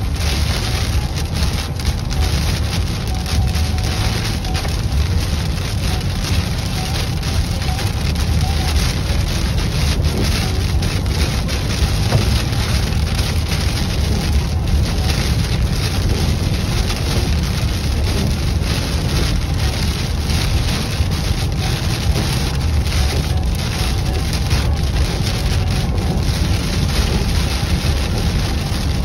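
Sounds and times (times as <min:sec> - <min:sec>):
heavy rain on vehicle roof: 0:00.0 - 0:29.0
tyres rumbling on wet road: 0:00.0 - 0:29.0.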